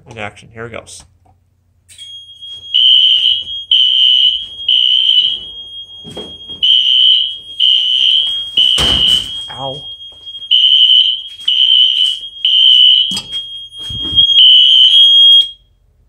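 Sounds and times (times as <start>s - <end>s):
steady high alarm tone: 1.9s - 15.7s
fire alarm horns pulsing: 2.1s - 15.6s.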